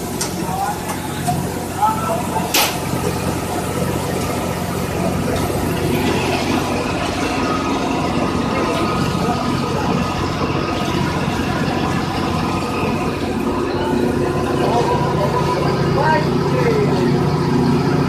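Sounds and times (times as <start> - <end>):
pipe threading machine motor drone: 0.0 - 18.0.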